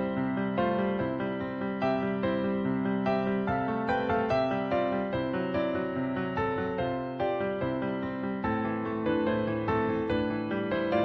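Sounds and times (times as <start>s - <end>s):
keyboard background music: 0.0s - 11.0s.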